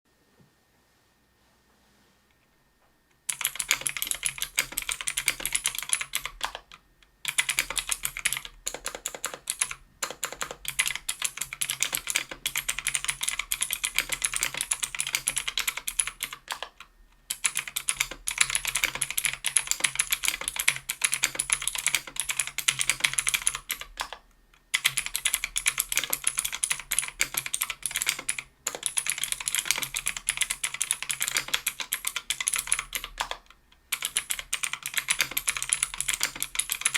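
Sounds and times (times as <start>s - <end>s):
mechanical keyboard typing: 3.3s - 36.9s.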